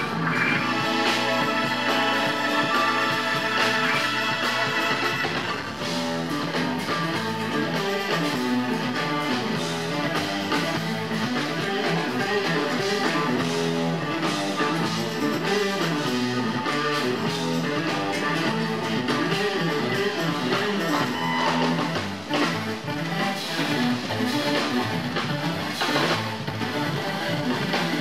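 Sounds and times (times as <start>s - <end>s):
drums and percussion: 0.0s - 28.0s
electric guitar: 0.0s - 28.0s
keyboards: 0.0s - 28.0s.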